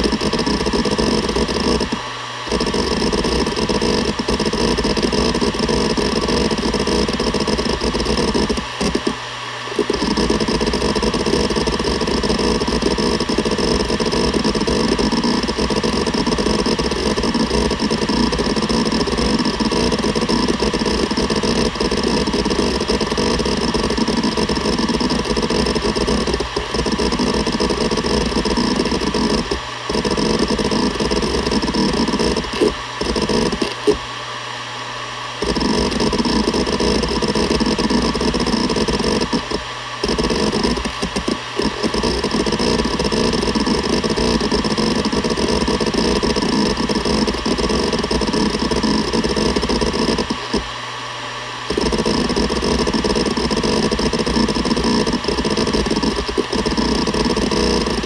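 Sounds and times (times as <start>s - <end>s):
hard drive heads seeking: 0.0s - 34.1s, 35.4s - 50.8s, 51.7s - 58.0s
hard drive whine: 0.0s - 58.0s.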